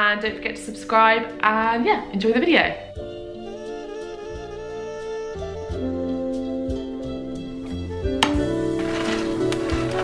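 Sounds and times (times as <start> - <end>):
mellow instrumental music: 0.0 - 10.0.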